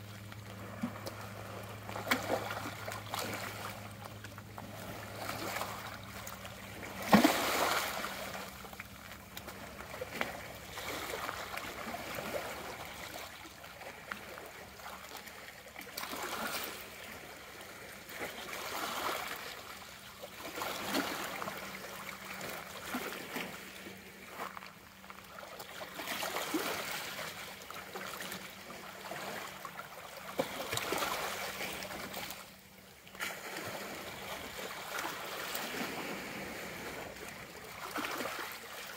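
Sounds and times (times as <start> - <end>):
waves lapping against rocks: 0.0 - 38.9.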